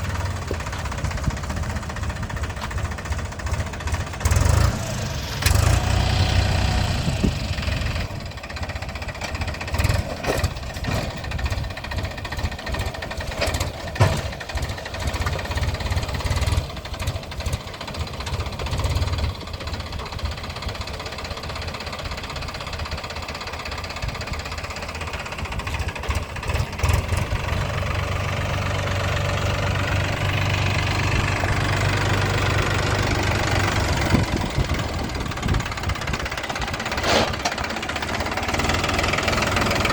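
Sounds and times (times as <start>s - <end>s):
diesel engine knocking clatter: 0.0s - 39.9s.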